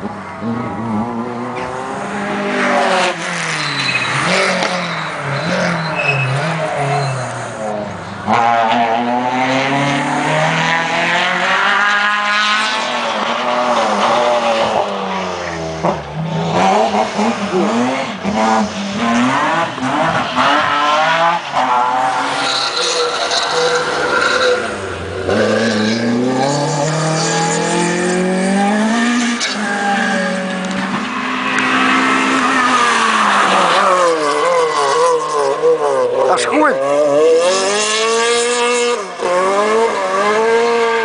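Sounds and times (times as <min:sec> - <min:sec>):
rally cars driving past: 0:00.0 - 0:41.0.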